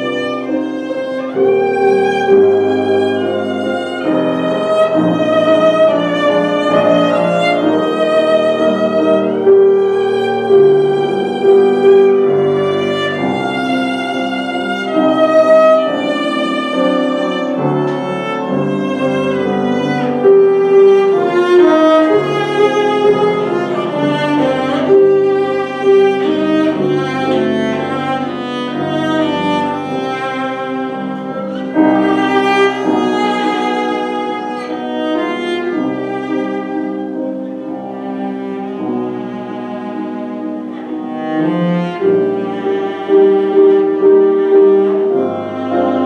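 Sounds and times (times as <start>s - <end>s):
lower accompanying notes: 0.0s - 46.0s
violin melody: 0.0s - 46.0s.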